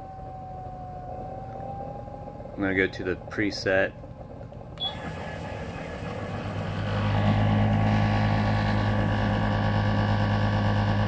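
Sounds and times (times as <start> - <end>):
machine motors humming: 0.0 - 11.0.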